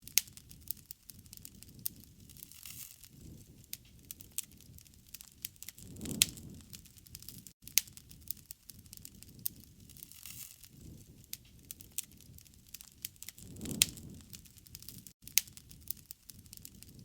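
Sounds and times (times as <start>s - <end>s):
wood snapping and popping: 0.0s - 10.7s, 11.3s - 17.0s
low rush of flame: 0.5s - 17.0s.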